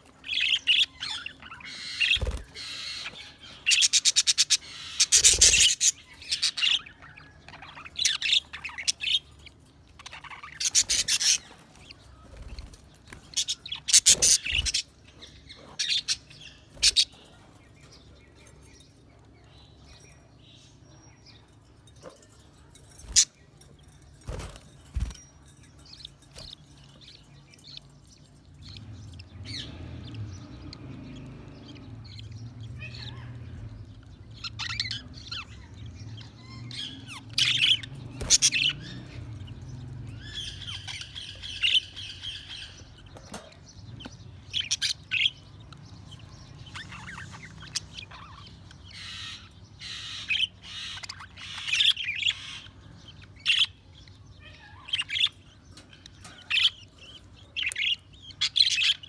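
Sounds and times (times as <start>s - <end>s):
budgerigars chirping and squawking: 0.0s - 59.0s.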